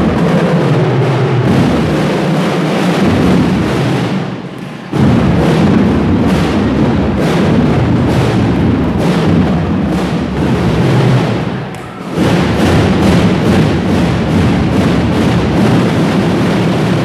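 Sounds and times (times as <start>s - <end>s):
loud drums: 0.0s - 17.0s.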